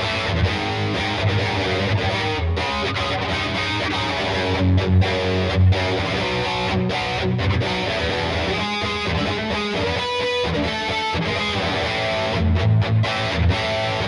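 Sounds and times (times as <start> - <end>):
distorted electric guitar: 0.0 - 14.0.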